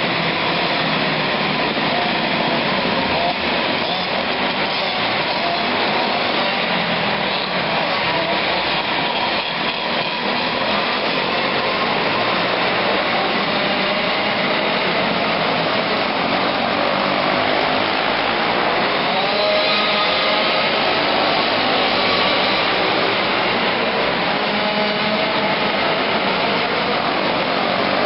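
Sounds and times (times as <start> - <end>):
racing kart engines buzzing: 0.0 - 28.0.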